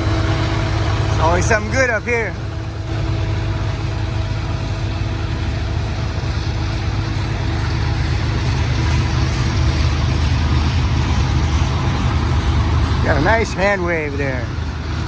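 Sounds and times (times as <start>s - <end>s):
diesel locomotive engine rumble: 0.0s - 15.0s
train wheels rolling: 0.0s - 15.0s.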